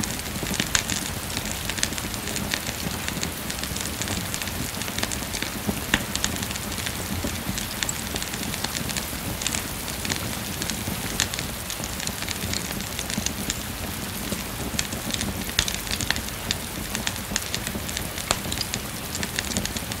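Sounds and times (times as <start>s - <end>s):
rain pattering: 0.0s - 20.0s
wood fire crackling and popping: 0.0s - 20.0s.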